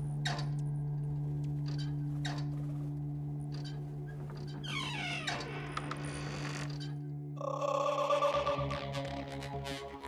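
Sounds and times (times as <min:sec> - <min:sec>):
steady low drone: 0:00.0 - 0:10.0.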